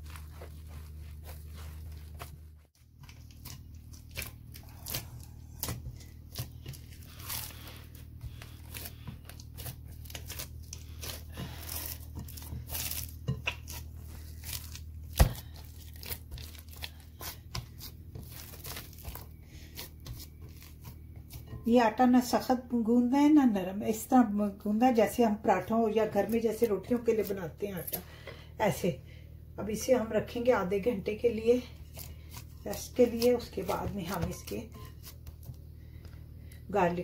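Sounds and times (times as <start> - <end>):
hands kneading dough: 0.0 - 28.9, 29.6 - 37.0
steady low hum: 0.0 - 37.0.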